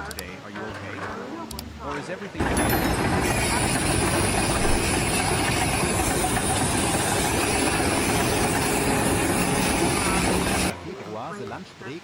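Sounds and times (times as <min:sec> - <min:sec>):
machine running: 0:00.1 - 0:11.3.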